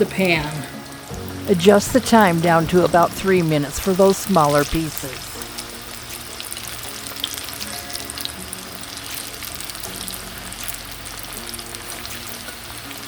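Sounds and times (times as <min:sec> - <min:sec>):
chicken frying in hot oil: 0:00.0 - 0:13.0
soft background music: 0:00.0 - 0:13.0.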